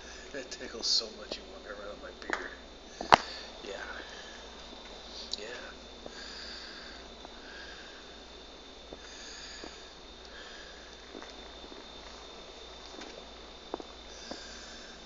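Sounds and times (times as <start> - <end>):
soft sniffing breaths: 2.9 - 15.0.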